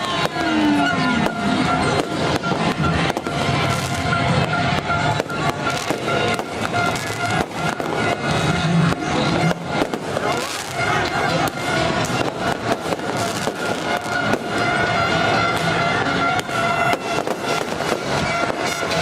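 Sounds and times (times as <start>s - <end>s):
fireworks bangs and crackles: 0.0s - 19.0s
steady horn-like tones: 0.0s - 19.0s.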